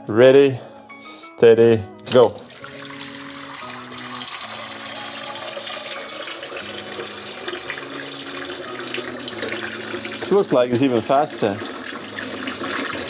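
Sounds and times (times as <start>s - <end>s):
tap water running into a sink: 2.1s - 13.0s.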